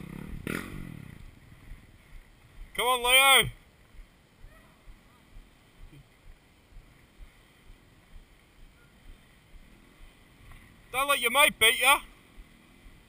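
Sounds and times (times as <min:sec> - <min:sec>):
distant motorcycle on dirt trail: 0:00.0 - 0:13.0.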